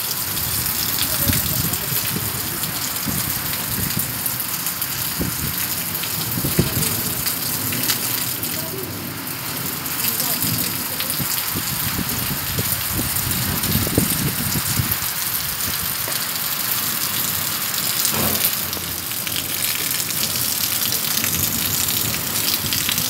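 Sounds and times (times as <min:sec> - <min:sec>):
heavy rain on brick paving: 0:00.0 - 0:23.0.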